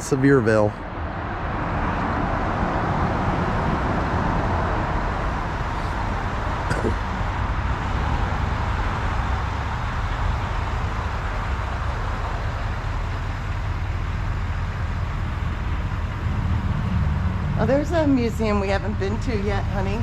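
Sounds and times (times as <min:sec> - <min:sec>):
car driving rumble inside cabin: 0:02.0 - 0:20.0.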